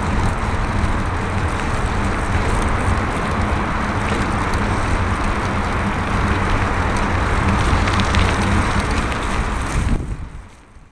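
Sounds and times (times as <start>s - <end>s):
bicycle road noise: 0.0s - 10.9s
low rumble: 0.0s - 10.9s
rushing wind: 0.0s - 10.9s.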